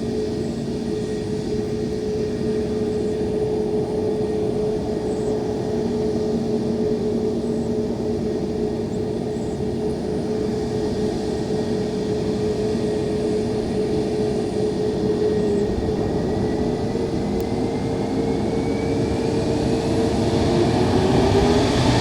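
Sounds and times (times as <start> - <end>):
airplane engine running: 0.0 - 22.0.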